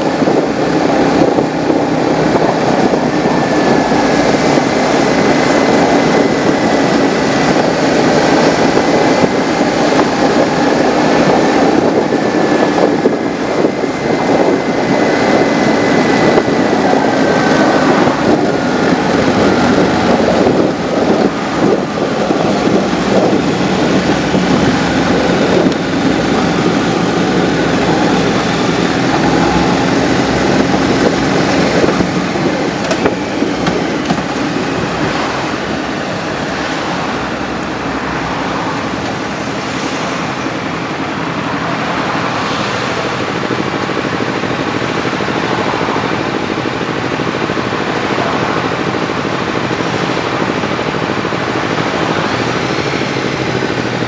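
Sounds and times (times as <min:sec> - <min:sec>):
motorcycle engine running: 0:00.0 - 0:54.0
wind rushing over camera: 0:00.0 - 0:54.0.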